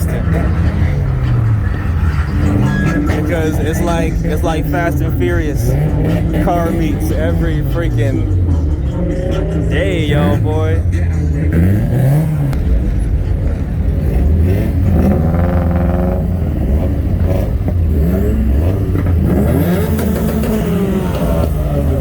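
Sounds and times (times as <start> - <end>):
car engine revving: 0.0 - 22.0
engines idling: 0.0 - 22.0.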